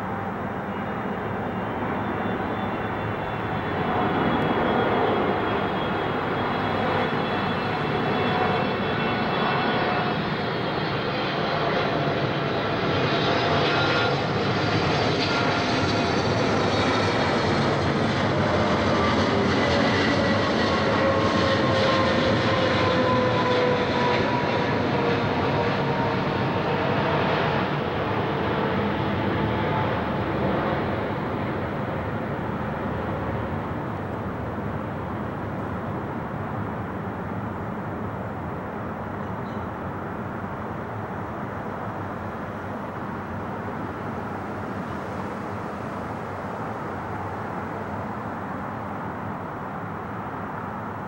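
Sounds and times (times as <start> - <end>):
jet roar with whining tones: 0.0 - 51.0.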